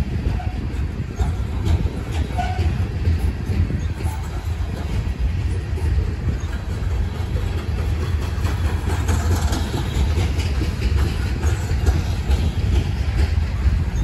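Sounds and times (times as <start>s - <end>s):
train wheels rumbling on rail: 0.0s - 14.0s
wind buffeting microphone: 0.0s - 14.0s.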